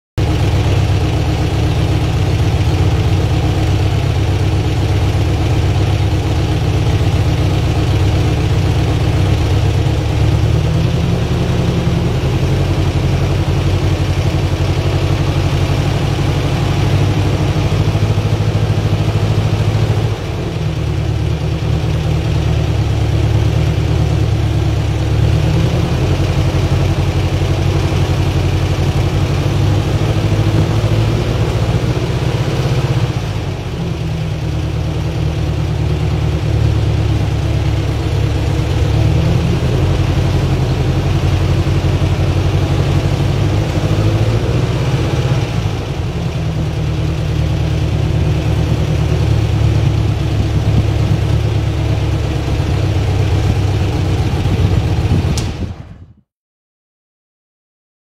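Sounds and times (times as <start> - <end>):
engine idling: 0.2 - 56.2.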